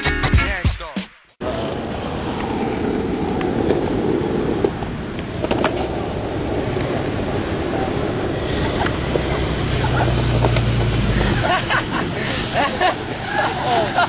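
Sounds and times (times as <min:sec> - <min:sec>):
road traffic hum: 0:01.4 - 0:14.0
skateboard wheels rolling on asphalt: 0:01.4 - 0:14.0.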